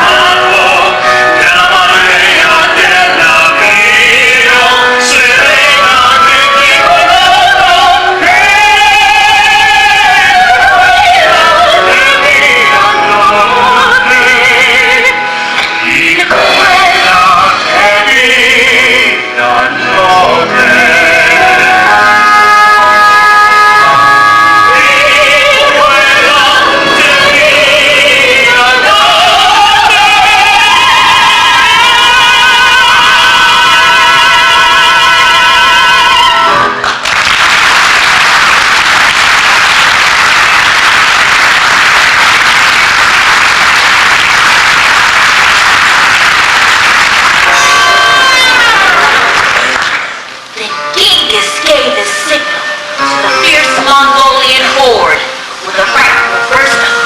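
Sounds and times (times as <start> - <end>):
operatic singing with vibrato: 0.0 - 37.6, 38.2 - 57.0
musical accompaniment: 0.0 - 57.0.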